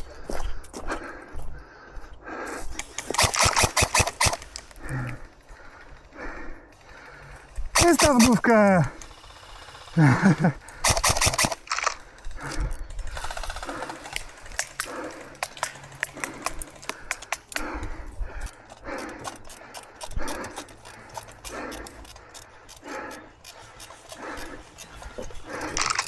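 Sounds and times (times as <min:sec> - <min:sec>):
sharp clicks: 0:02.7 - 0:06.0, 0:06.7 - 0:09.2, 0:09.9 - 0:26.0.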